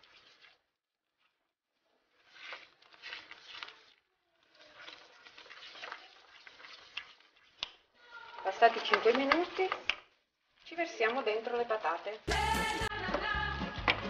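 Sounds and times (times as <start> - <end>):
wooden spoon stirring sauce: 0.0 - 14.0.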